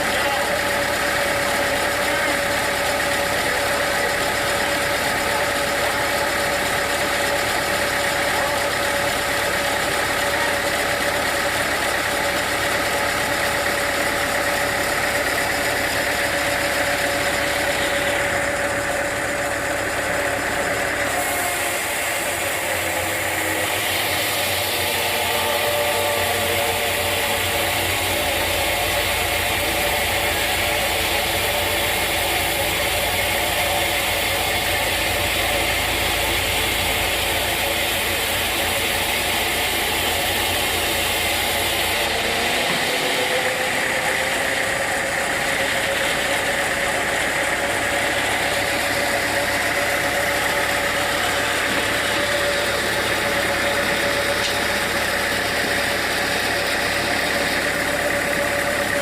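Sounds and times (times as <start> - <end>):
sawmill machinery deep rumble: 0.0 - 59.0.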